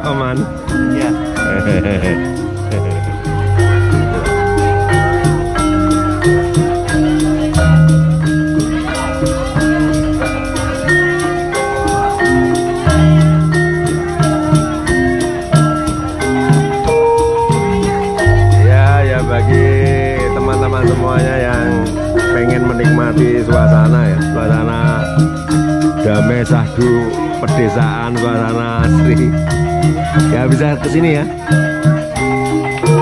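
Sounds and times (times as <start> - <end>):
gamelan music: 0.0 - 33.0.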